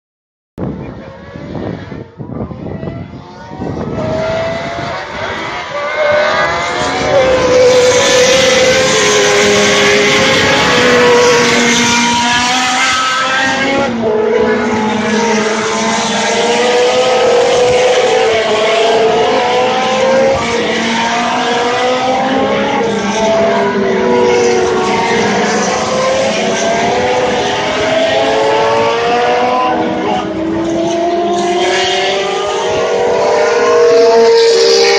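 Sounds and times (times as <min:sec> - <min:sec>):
racing car engines: 0:00.6 - 0:34.9.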